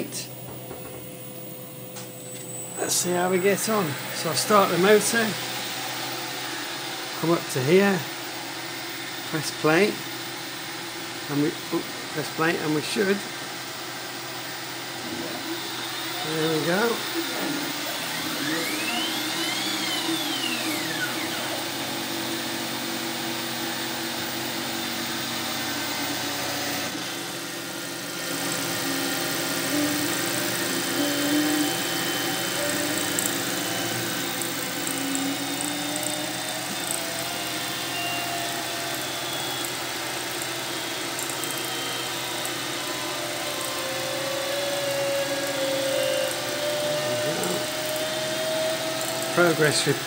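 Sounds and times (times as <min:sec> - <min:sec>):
milling machine cutting metal: 0:00.0 - 0:50.0
stepper motors whining: 0:00.0 - 0:50.0.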